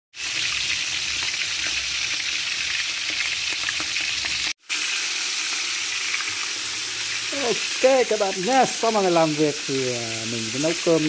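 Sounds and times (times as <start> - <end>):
food sizzling in hot oil: 0.1 - 11.0.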